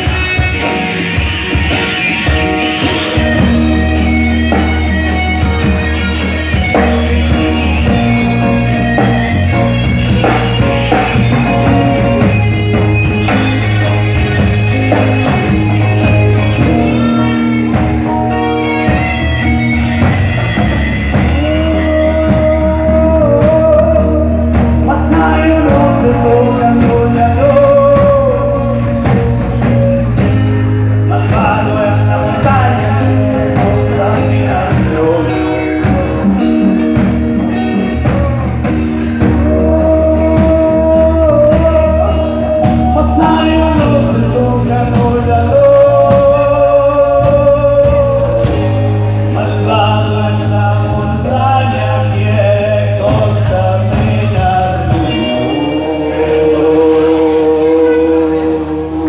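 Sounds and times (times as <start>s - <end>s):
bass guitar: 0.0s - 59.0s
drum kit: 0.0s - 59.0s
electric guitars: 0.0s - 59.0s
keyboard: 0.0s - 59.0s
wavering lead melody: 0.0s - 59.0s.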